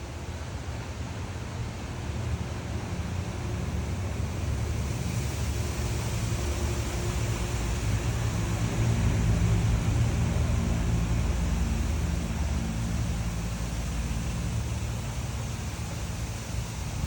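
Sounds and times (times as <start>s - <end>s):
low engine rumble: 0.0s - 17.0s
steady hiss: 2.3s - 17.0s.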